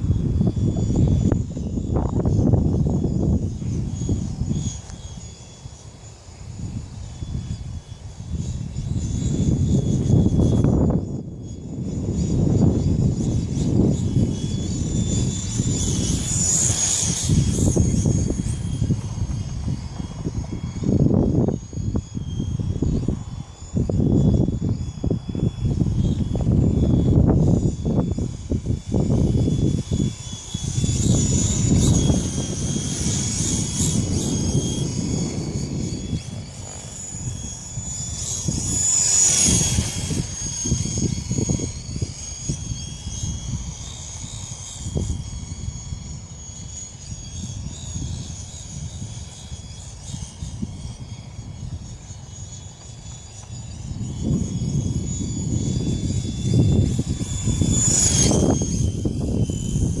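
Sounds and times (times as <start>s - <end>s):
toy helicopter rotor whine: 0.0s - 60.0s
wind buffeting microphone: 0.0s - 60.0s.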